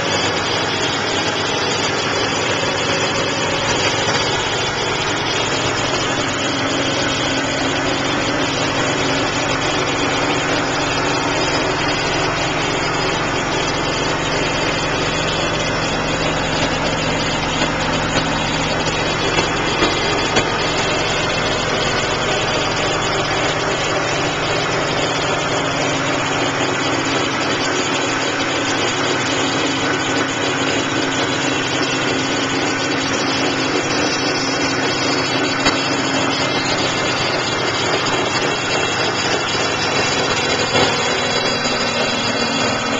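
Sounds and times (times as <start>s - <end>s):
car engine idling: 0.0s - 42.9s
unidentified engine noise: 0.0s - 42.9s.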